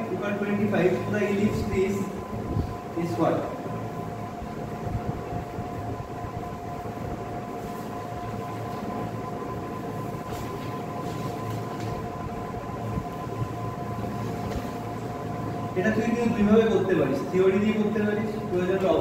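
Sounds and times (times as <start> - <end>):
mechanical hum with whining tones: 0.0 - 19.0.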